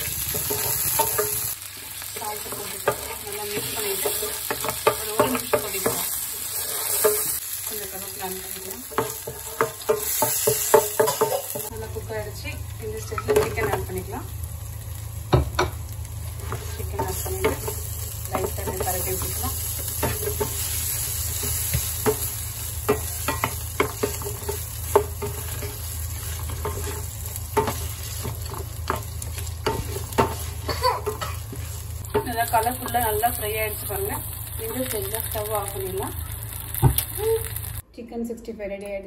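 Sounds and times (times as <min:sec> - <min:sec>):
chicken sizzling in pan: 0:00.0 - 0:37.8.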